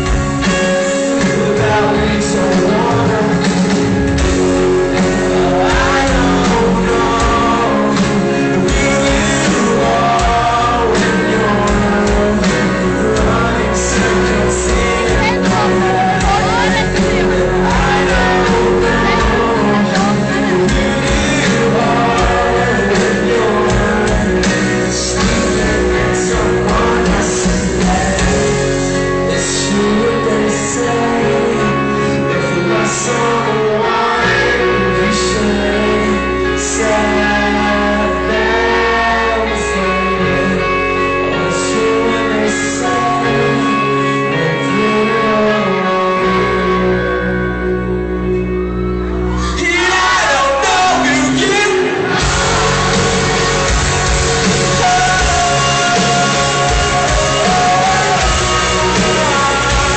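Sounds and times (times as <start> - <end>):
man singing: 0.0 - 59.9
rock band playing: 0.0 - 59.9.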